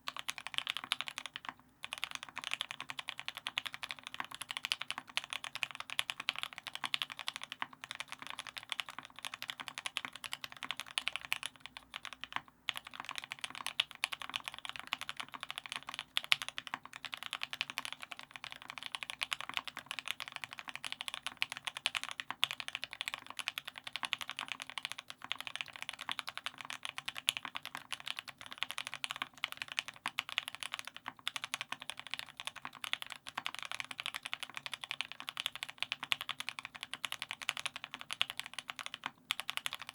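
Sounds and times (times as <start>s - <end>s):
mechanical keyboard typing: 0.1s - 39.9s.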